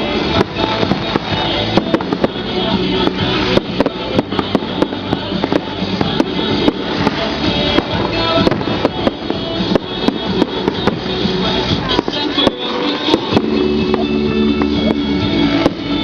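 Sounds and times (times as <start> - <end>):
music playing: 0.0 - 16.0.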